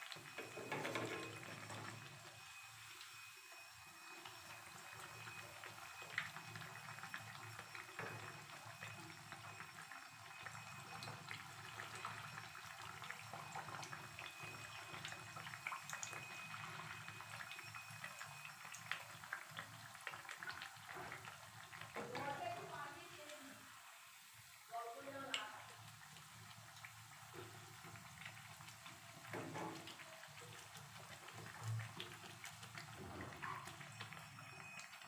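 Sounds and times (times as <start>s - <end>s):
batter sizzling in hot oil: 0.0s - 35.0s.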